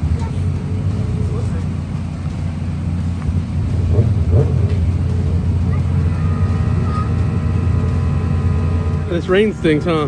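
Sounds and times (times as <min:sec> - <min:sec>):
generator running: 0:00.0 - 0:10.0.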